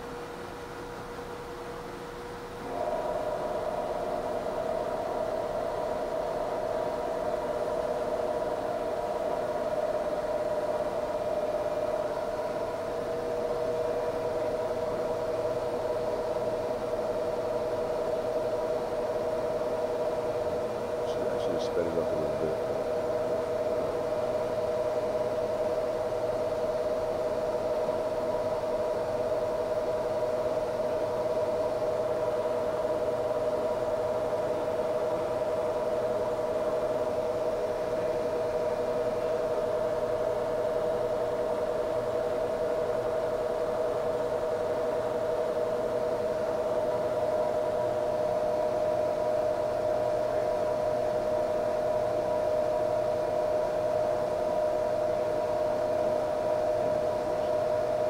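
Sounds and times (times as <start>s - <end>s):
grinder machine whine: 2.6s - 58.0s.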